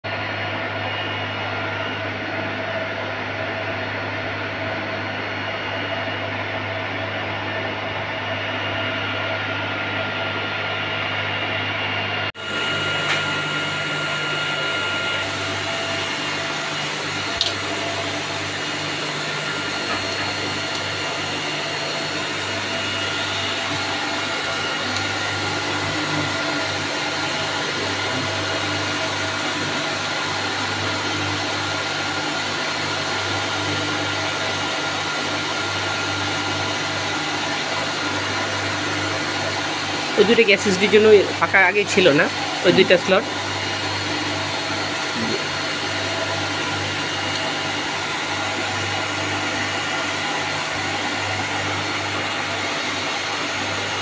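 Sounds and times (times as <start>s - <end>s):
server cooling fans whirring: 0.1s - 34.2s, 39.4s - 54.0s.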